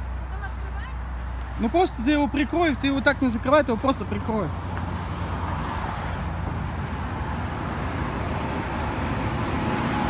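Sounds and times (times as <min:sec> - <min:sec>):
low rumble of road traffic: 0:00.0 - 0:10.0.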